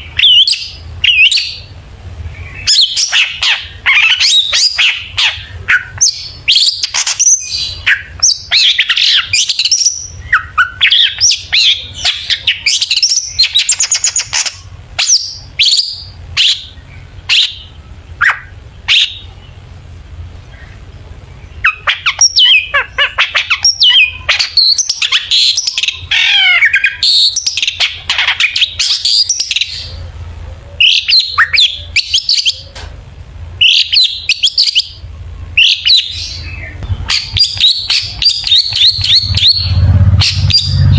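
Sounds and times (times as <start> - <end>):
bird singing rapid chirps and trills: 0.0 - 19.7, 20.4 - 32.8, 33.5 - 40.9
faint low hum: 0.0 - 40.9.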